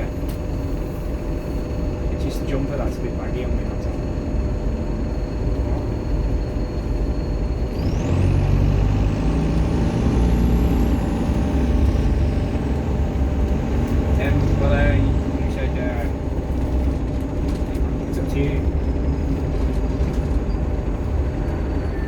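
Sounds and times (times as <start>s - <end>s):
bus diesel engine: 0.0s - 22.0s
turbocharger whine: 0.0s - 22.0s.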